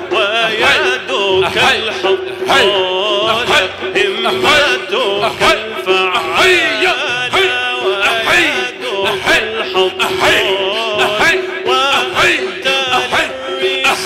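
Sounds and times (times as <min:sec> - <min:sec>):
man chanting devotional song: 0:00.0 - 0:14.0.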